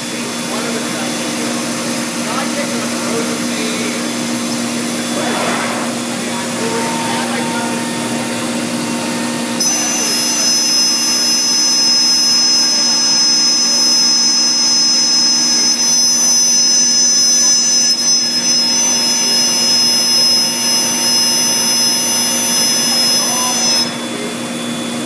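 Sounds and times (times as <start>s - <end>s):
router spindle high whine: 0.0s - 25.0s.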